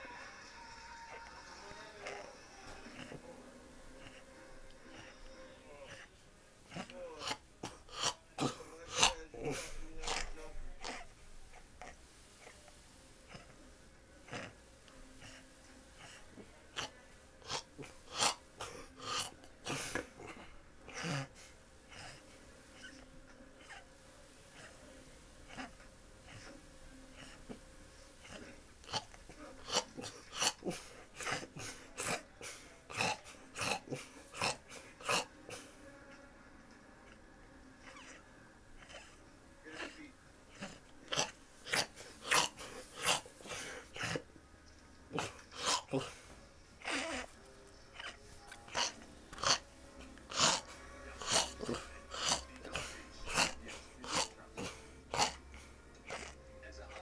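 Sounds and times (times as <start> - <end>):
snoring snorts: 1.2 - 12.6, 14.2 - 23.0, 28.2 - 35.7, 37.8 - 44.3, 45.1 - 57.0.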